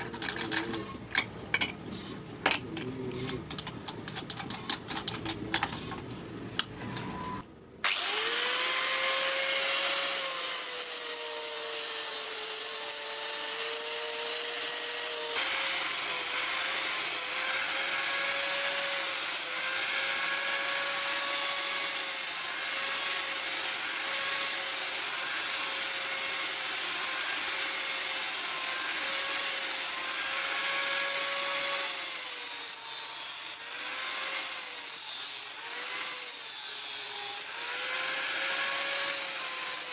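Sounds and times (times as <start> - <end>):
angle grinder grinding steel: 0.0 - 7.1, 7.8 - 39.9.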